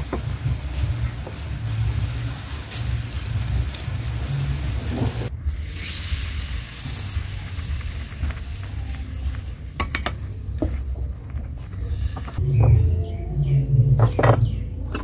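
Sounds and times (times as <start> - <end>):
batter sizzling on hot iron: 0.0 - 12.4.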